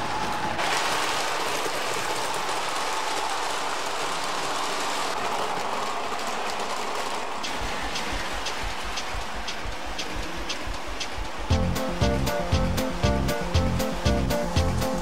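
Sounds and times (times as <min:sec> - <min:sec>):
model train whirring on rails: 0:00.0 - 0:15.0.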